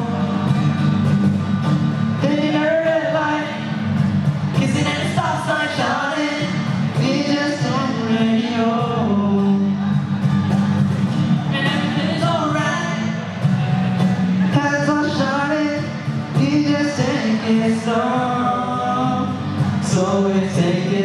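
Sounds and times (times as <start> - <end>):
pop-rock instrumental backing: 0.0 - 21.0.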